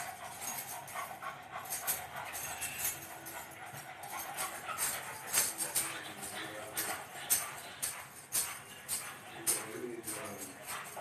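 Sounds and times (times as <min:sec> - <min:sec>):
small dog panting: 0:00.0 - 0:11.0.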